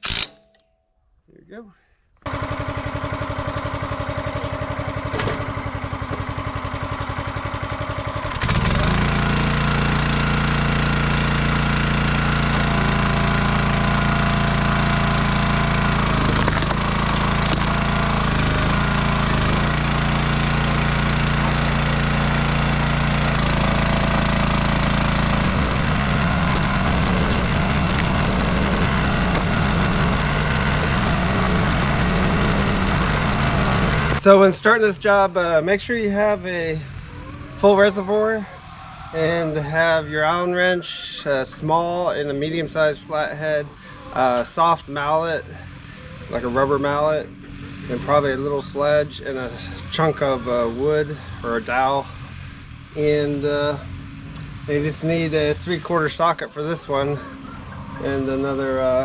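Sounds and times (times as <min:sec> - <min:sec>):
small gasoline engine running: 0:00.0 - 0:00.3, 0:02.2 - 0:35.4, 0:36.1 - 0:59.0.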